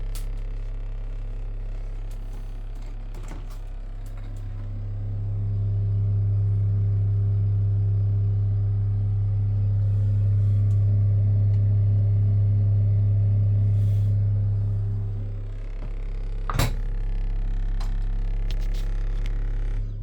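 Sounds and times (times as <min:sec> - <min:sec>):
refrigerator humming: 0:00.0 - 0:20.0.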